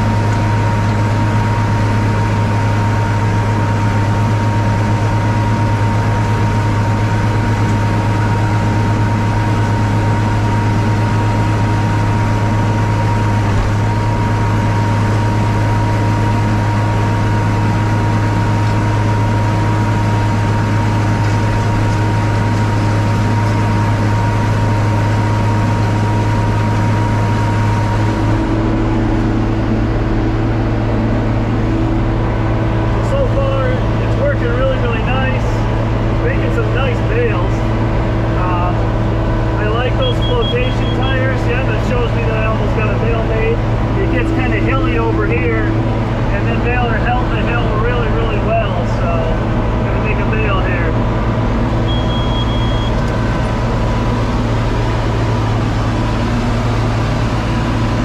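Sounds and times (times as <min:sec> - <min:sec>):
high whine: 0:00.0 - 0:58.0
low hum: 0:00.0 - 0:58.0
tractor engine and baler drone: 0:00.0 - 0:58.0.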